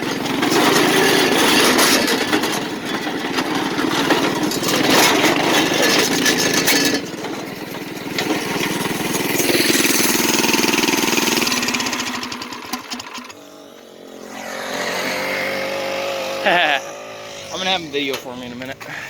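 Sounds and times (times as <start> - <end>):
kart engine running: 0.0 - 19.0.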